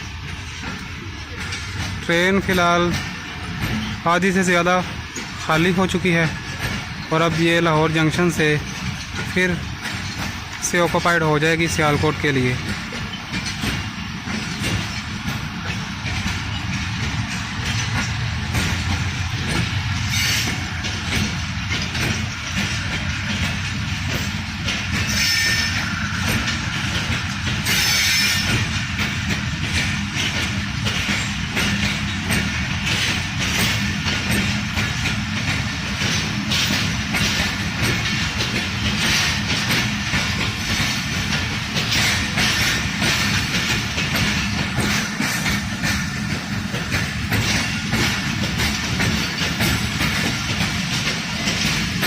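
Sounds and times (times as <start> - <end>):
train carriages rumbling on rails: 0.0 - 52.0
wheel clatter: 0.0 - 52.0.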